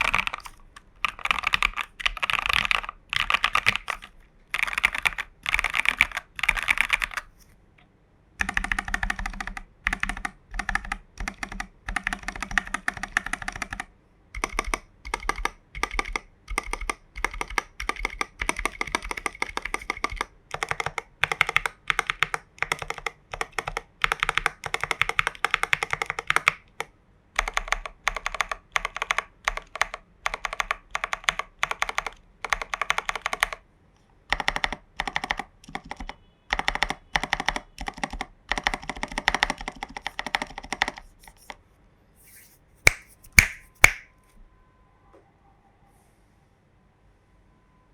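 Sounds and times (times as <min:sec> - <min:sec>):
mechanical keyboard typing: 0:00.0 - 0:07.4, 0:08.4 - 0:33.6, 0:34.3 - 0:41.6.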